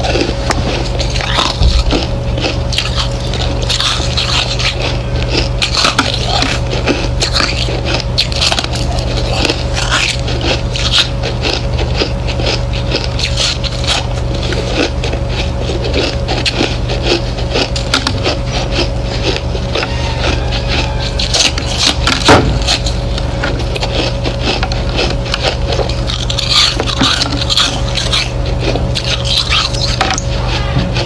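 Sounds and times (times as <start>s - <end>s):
person chewing ice: 0.0s - 31.0s
steady low hum: 0.0s - 31.0s.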